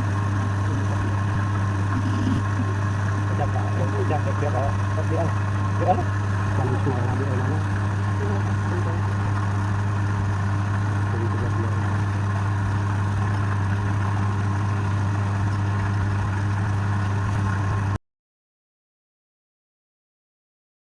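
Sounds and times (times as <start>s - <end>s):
lathe motor humming: 0.0s - 18.0s.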